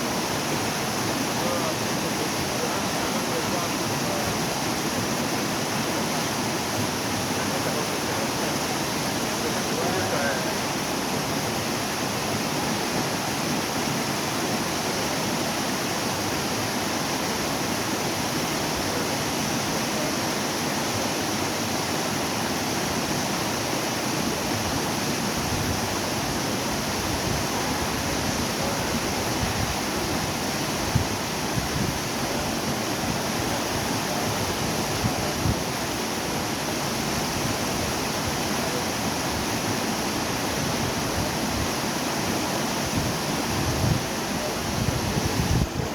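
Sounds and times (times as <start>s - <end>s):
waterfall splashing: 0.0s - 45.9s.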